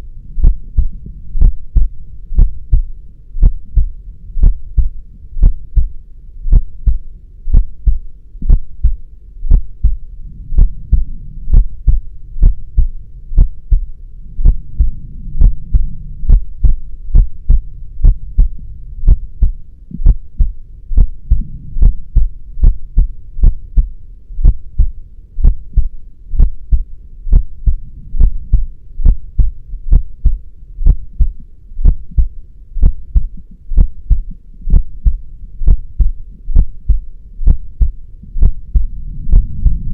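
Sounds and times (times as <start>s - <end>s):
faint low hum: 0.0s - 39.9s
heartbeat double thumps: 0.3s - 39.9s.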